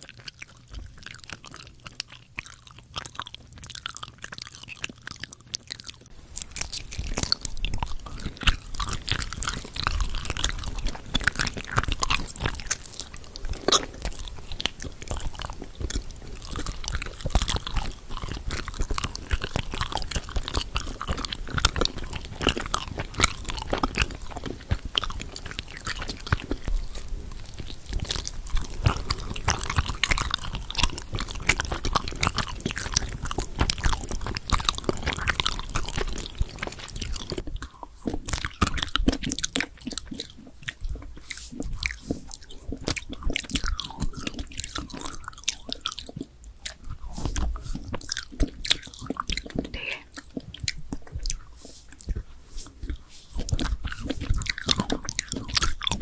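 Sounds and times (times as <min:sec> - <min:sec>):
crunchy bites and chewing: 0:00.0 - 0:56.0.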